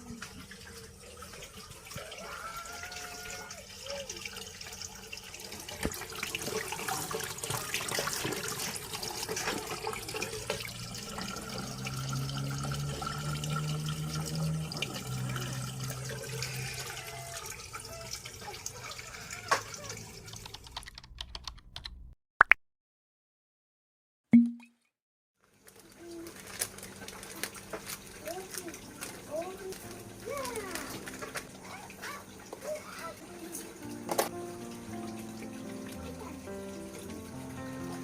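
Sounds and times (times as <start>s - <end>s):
tap water splashing into sink: 0.0s - 20.5s, 27.7s - 38.0s.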